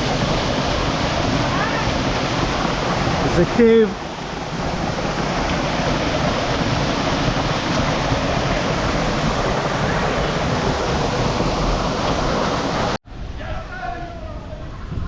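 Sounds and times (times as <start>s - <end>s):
rushing falling water: 0.0s - 13.7s.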